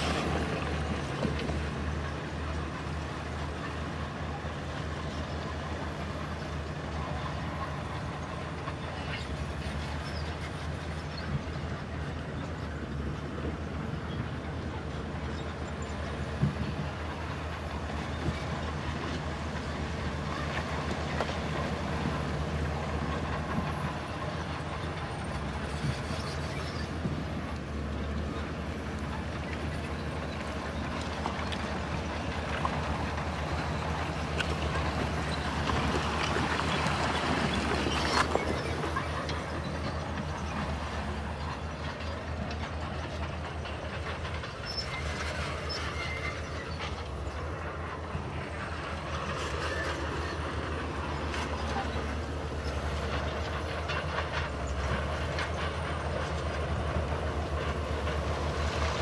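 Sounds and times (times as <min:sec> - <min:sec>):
bulldozer diesel engine running: 0:00.0 - 0:59.0
steel tracks clattering: 0:00.0 - 0:59.0.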